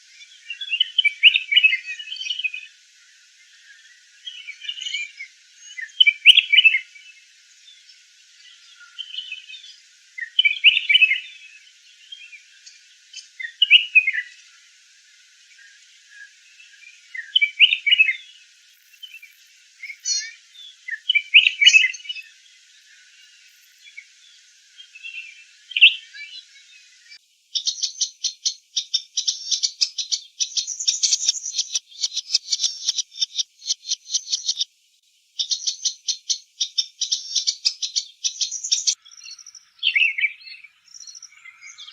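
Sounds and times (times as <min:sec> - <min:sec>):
bird singing warbled phrases: 0:00.0 - 0:02.8, 0:03.4 - 0:34.7, 0:35.4 - 0:41.9.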